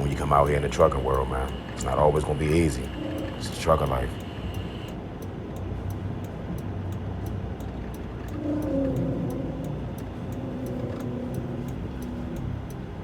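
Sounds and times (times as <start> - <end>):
diesel truck engine running: 0.0 - 13.0
faint regular ticking: 0.0 - 13.0.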